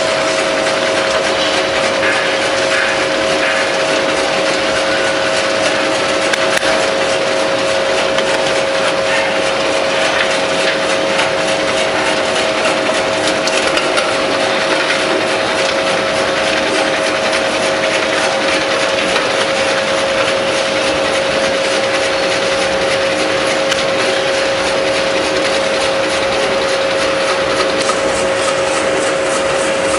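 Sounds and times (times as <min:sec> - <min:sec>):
slicing machine whine: 0:00.0 - 0:29.9.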